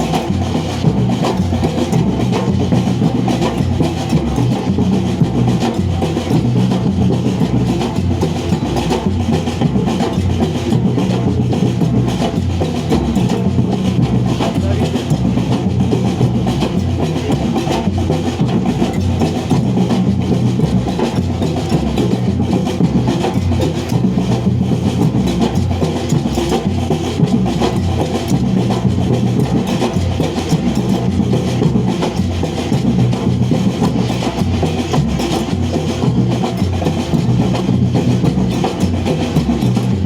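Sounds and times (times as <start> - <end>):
deep bass drum beats: 0.0 - 40.0
drummers playing percussion: 0.0 - 40.0.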